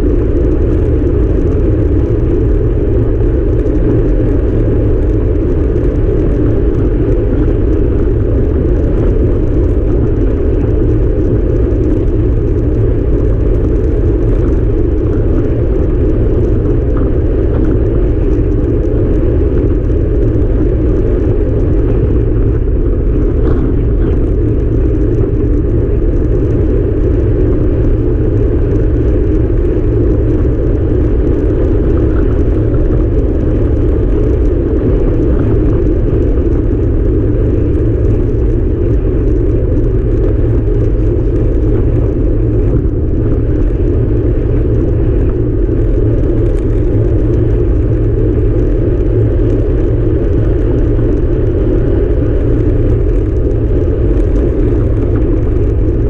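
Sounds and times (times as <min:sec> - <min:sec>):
wind rushing over microphone: 0:00.0 - 0:56.0
tyres rolling on asphalt: 0:00.1 - 0:56.0.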